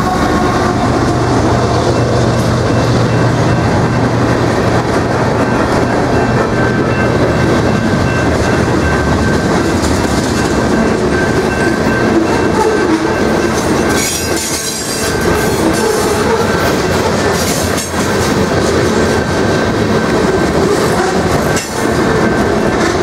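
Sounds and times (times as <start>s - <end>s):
freight train cars rumbling past: 0.0s - 23.0s.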